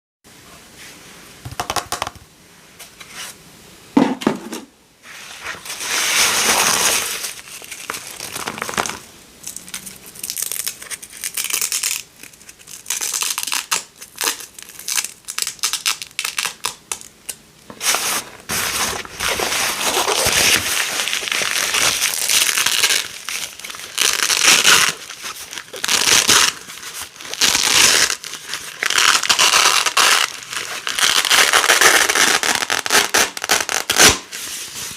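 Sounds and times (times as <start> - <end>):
hook-and-loop fastener ripping: 6.2 - 34.4.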